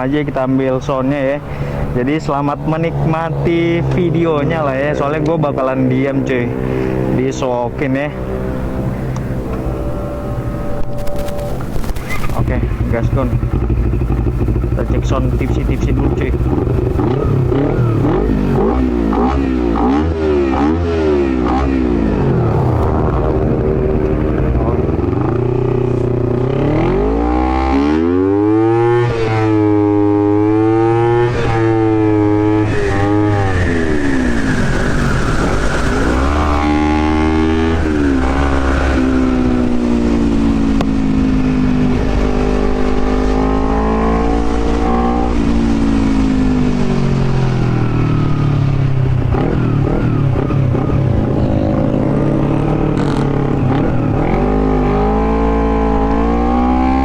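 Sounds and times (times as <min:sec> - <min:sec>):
motorcycle engine revving: 0:01.5 - 0:57.0.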